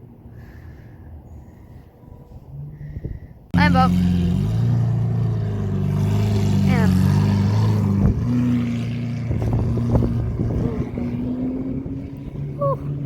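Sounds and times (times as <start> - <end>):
low wind rumble: 0.0 - 13.0
vehicle engine humming: 0.0 - 13.0.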